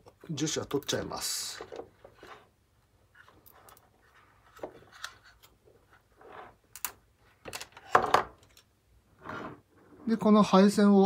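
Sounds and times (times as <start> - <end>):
rubbing and rustling of plastic parts: 0.8 - 10.1.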